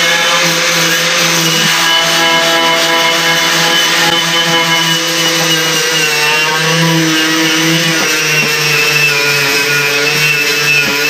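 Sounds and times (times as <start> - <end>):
angle grinder grinding metal: 0.0 - 11.0.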